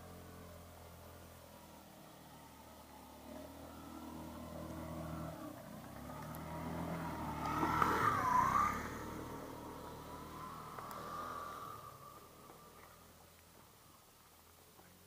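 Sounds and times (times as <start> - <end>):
motor scooter passing by: 0.0 - 14.2.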